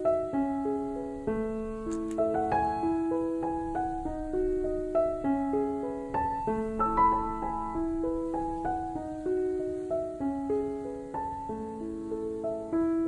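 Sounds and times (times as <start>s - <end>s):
soft slow piano music: 0.0s - 13.0s.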